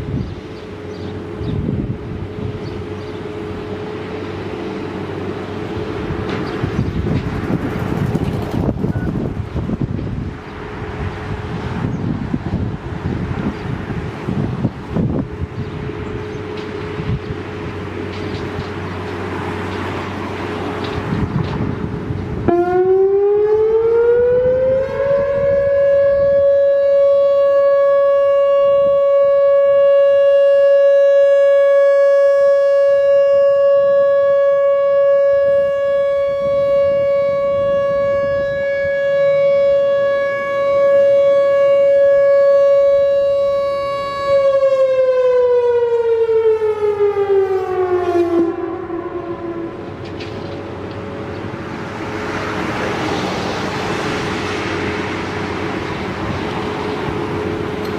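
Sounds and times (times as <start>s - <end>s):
outdoor warning siren: 0.0s - 57.9s.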